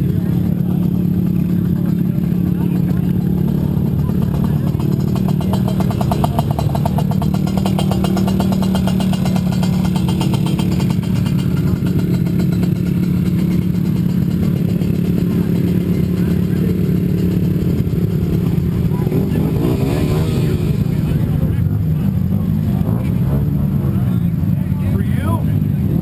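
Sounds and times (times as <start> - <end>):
quad engines droning: 0.0 - 26.0.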